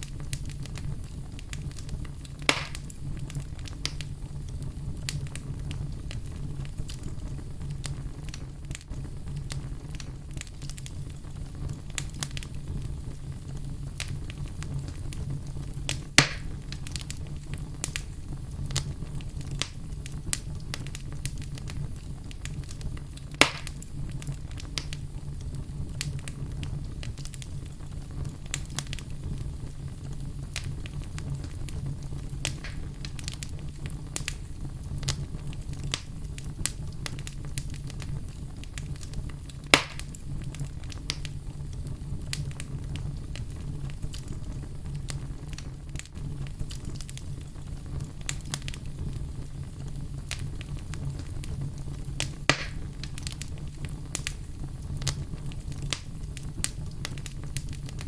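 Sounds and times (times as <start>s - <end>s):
loud sharp pops of fire: 0.0s - 58.0s
low rumble of flames: 0.0s - 58.0s
wood fire crackling: 0.0s - 58.0s.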